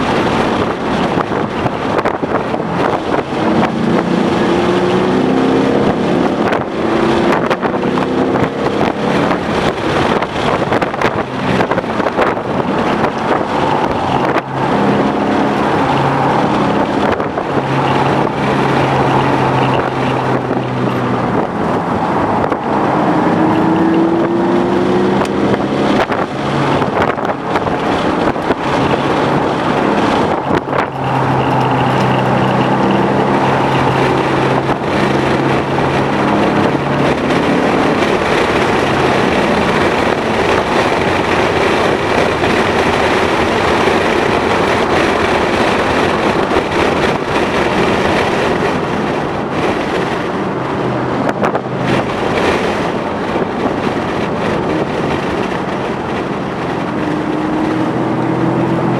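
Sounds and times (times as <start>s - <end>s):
car engine running: 0.0s - 58.9s
wind and road noise: 0.0s - 58.9s.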